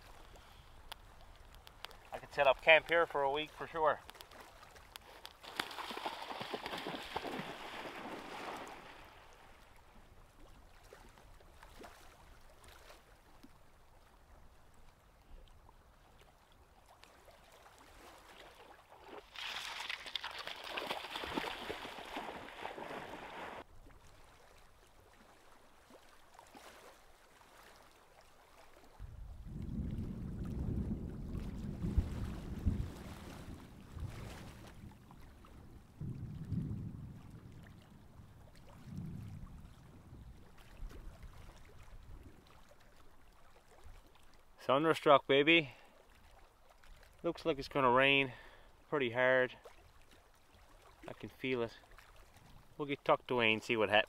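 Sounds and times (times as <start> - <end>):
lake water splashing and gurgling: 0.0 - 54.0.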